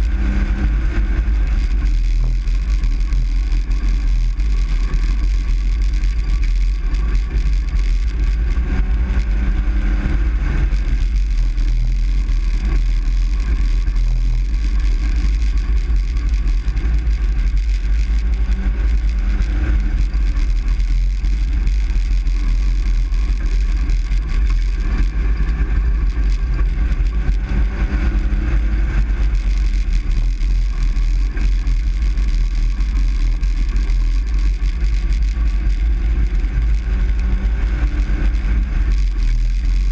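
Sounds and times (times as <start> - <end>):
truck cab road and engine rumble: 0.0 - 39.9.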